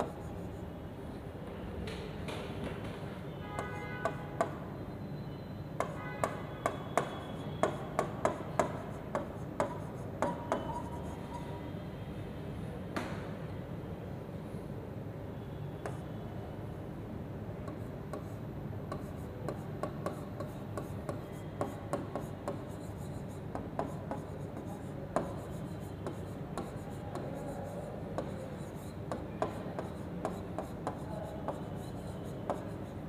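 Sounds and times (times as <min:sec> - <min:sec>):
low background noise: 0:00.0 - 0:33.0.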